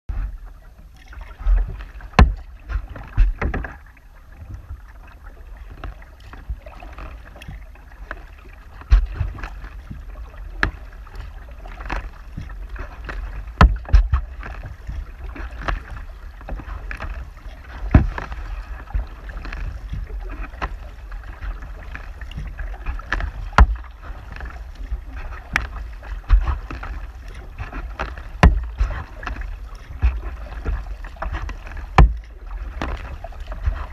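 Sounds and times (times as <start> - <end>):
paddle knocking kayak: 0.1 - 33.9
paddle splashing in water: 0.1 - 33.9
water rushing along hull: 0.1 - 33.9.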